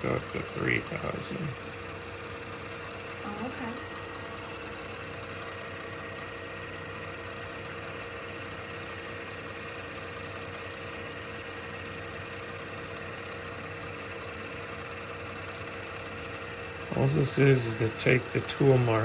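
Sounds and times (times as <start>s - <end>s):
lathe motor humming: 0.0s - 19.0s.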